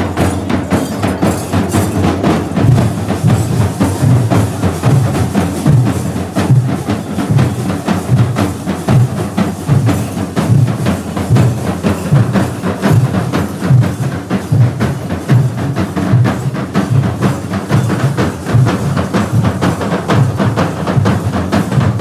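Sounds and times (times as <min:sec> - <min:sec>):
drums beaten in fast rhythm: 0:00.0 - 0:22.0.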